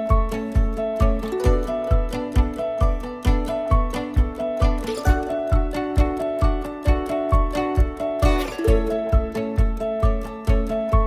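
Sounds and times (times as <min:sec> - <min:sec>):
plucked-string melody: 0:00.0 - 0:11.0
steady thumping beat: 0:00.0 - 0:11.0.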